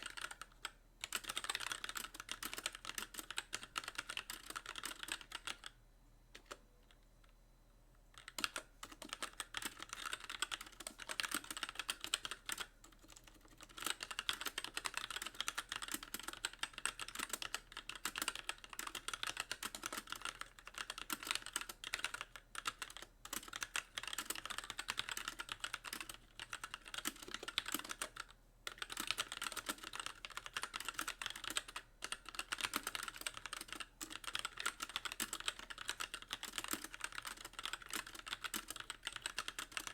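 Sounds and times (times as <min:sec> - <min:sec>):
typing on mechanical keyboard: 0:00.0 - 0:07.0, 0:08.1 - 0:39.9.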